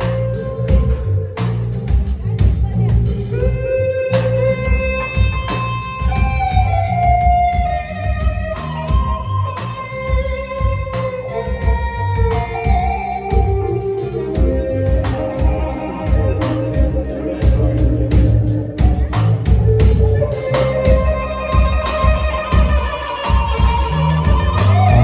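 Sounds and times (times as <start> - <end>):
live band playing instrumental: 0.0 - 25.0.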